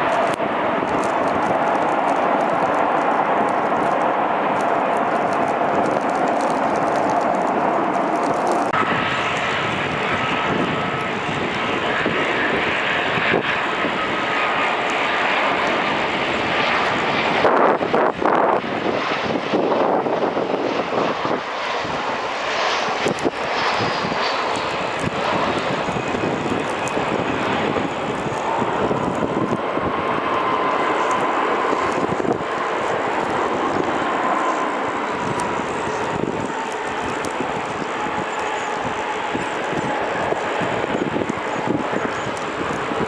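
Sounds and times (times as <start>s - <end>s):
airliner engines rushing: 0.0s - 43.0s
faint engine whine: 0.0s - 43.0s.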